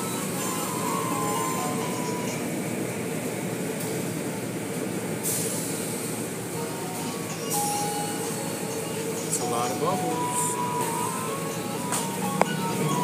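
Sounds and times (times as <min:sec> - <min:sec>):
machinery rumble: 0:00.0 - 0:13.0.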